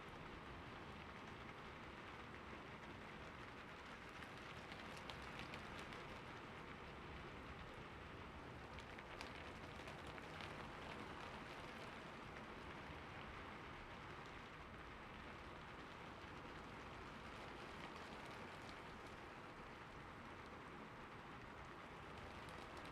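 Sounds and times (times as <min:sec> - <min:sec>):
rain on a rooftop: 0:00.0 - 0:22.9.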